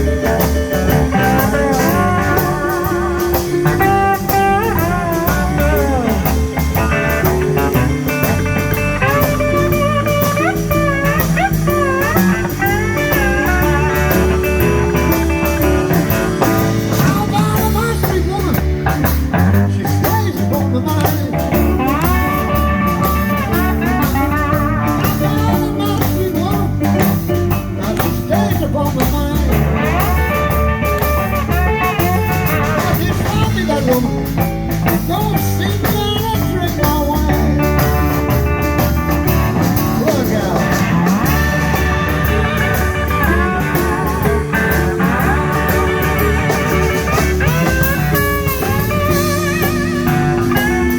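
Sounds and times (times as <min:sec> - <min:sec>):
lead guitar solo: 0:00.0 - 0:35.1, 0:35.8 - 0:50.9
bass: 0:00.0 - 0:50.9
drums shuffle: 0:00.0 - 0:50.9.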